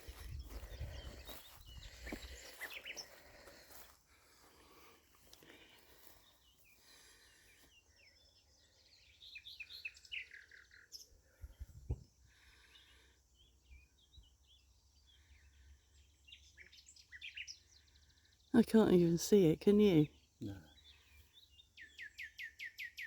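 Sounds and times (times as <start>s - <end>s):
faint songbird chirping: 0.0s - 23.0s.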